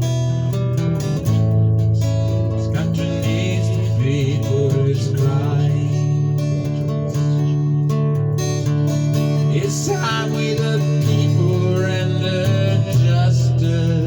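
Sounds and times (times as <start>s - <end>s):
acoustic guitar strumming chords: 0.0s - 14.0s
bending guitar melody line: 0.0s - 14.0s.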